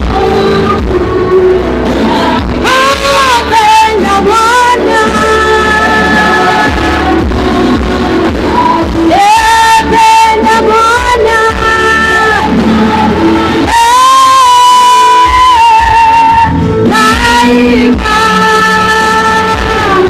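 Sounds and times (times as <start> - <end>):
musical backing: 0.0 - 20.0
voices singing worship song: 0.0 - 20.0.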